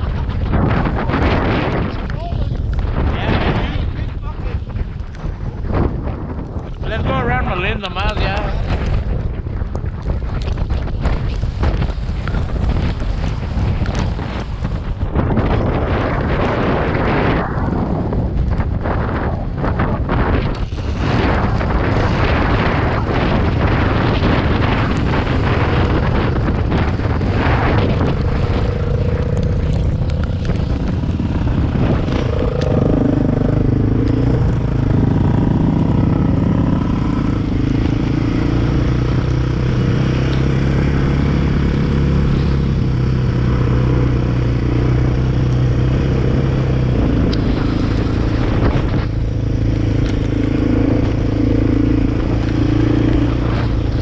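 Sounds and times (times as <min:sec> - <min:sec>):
quad bike engine running: 0:04.8 - 0:54.0.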